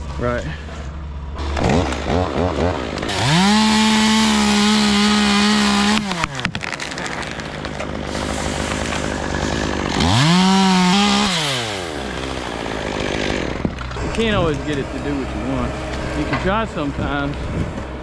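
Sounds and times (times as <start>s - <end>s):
chainsaw revving: 1.4s - 17.3s.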